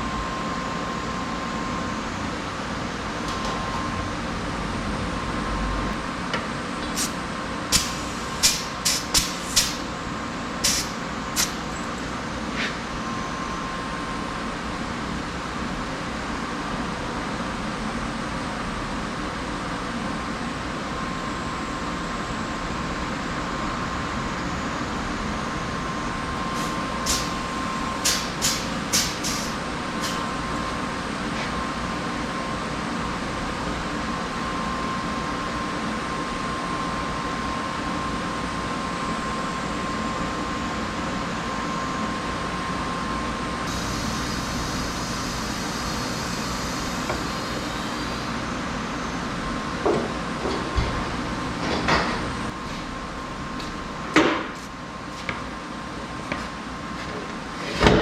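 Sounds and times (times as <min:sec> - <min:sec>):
mechanical hum with high whine: 0:00.0 - 0:58.0.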